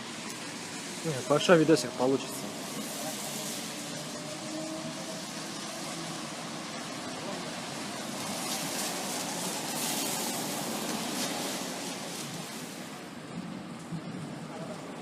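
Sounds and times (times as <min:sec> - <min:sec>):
car passing by: 0:00.0 - 0:13.2
road traffic hiss: 0:00.0 - 0:15.0.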